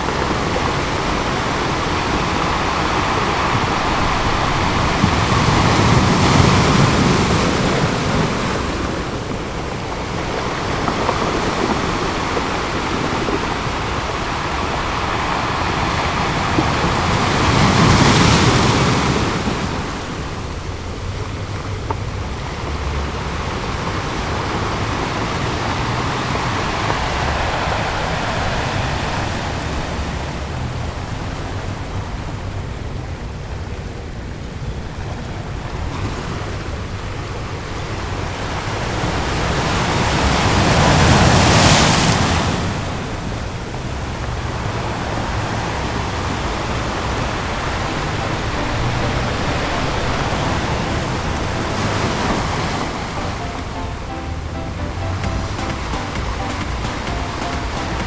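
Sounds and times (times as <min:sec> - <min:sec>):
ocean waves breaking on shore: 0:00.0 - 0:32.5, 0:34.6 - 0:58.0.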